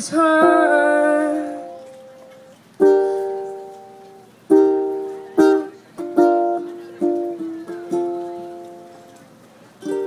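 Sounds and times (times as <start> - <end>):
acoustic strings strummed chords: 0.0 - 10.0.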